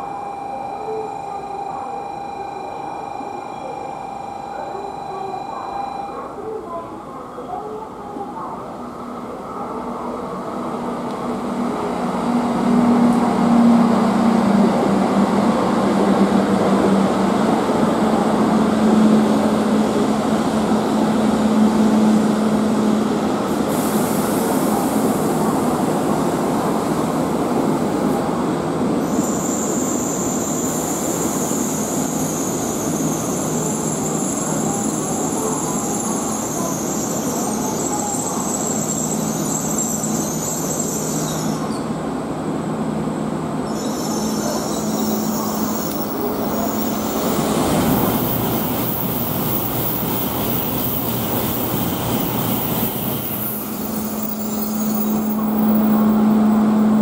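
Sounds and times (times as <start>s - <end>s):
train rumble and hiss: 6.4s - 57.0s.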